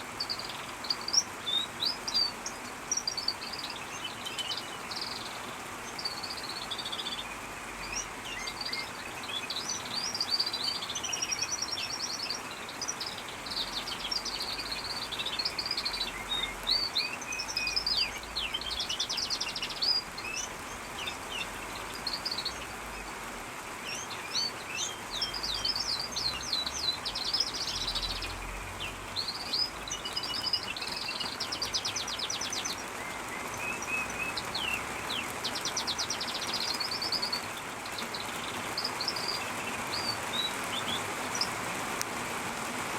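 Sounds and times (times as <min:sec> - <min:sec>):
songbird warbling and trilling: 0:00.0 - 0:23.1, 0:23.8 - 0:41.6
falling rain hiss: 0:00.0 - 0:42.9.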